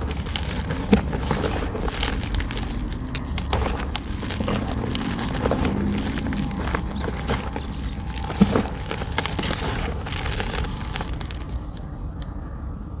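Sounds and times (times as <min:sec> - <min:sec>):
chalk blocks crunching: 0:00.0 - 0:12.3.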